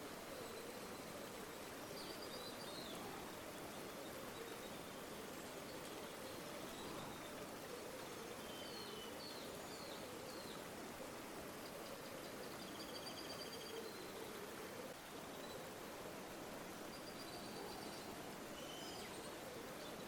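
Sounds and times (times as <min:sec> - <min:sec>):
river water flowing: 0:00.0 - 0:20.0
faint bird chirps: 0:00.2 - 0:10.7, 0:11.6 - 0:15.8, 0:16.8 - 0:20.0.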